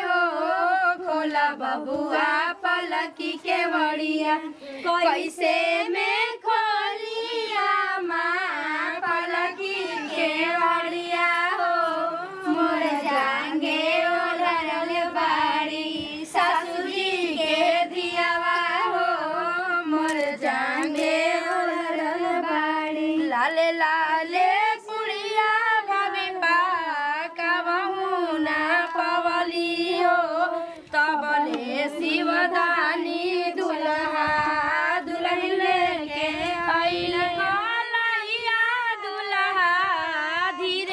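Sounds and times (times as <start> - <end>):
woman singing in high voice: 0.0 - 40.9.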